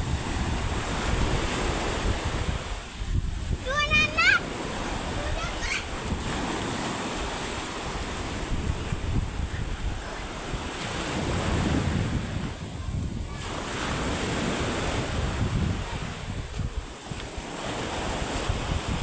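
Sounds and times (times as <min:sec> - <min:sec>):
rough surf breaking: 0:00.0 - 0:19.0
wind buffeting microphone: 0:00.0 - 0:19.0.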